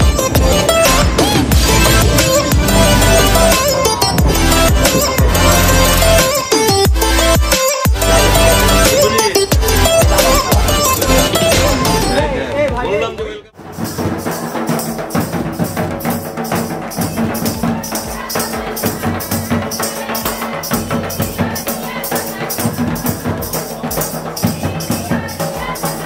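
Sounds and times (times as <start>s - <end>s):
barrel drum beating: 0.0s - 12.8s, 13.6s - 26.0s.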